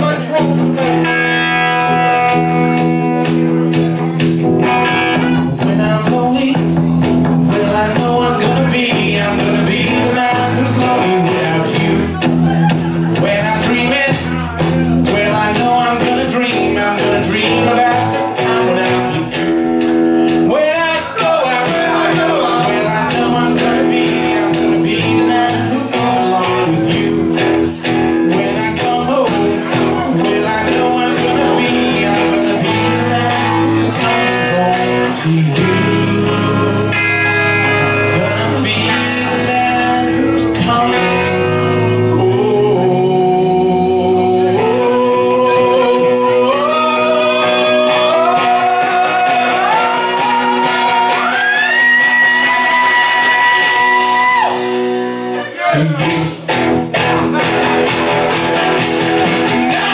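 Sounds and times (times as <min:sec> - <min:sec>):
drums: 0:00.0 - 0:59.9
electric bass: 0:00.0 - 0:59.9
electric guitar: 0:00.0 - 0:59.9
person singing: 0:00.0 - 0:59.9.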